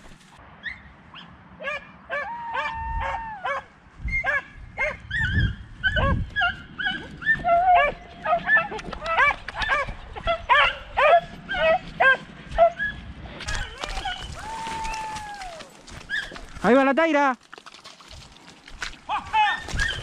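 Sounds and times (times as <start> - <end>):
dogs yelping: 0.6 - 16.6, 19.1 - 20.0.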